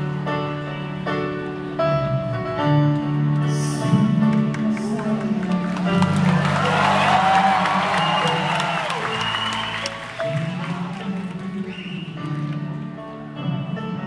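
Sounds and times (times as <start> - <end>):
crowd noise: 0.0 - 14.0
keyboard chords: 0.0 - 14.0.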